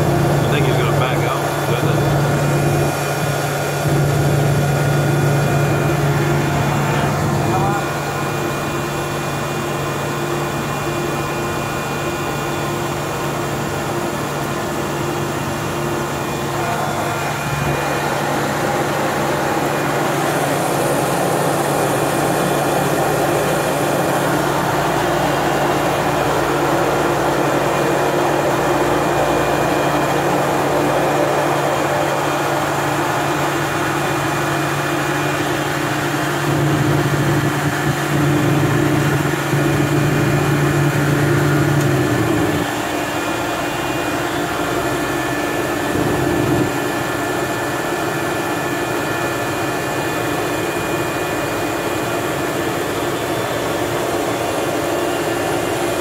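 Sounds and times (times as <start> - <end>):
turboprop engine humming: 0.0 - 56.0.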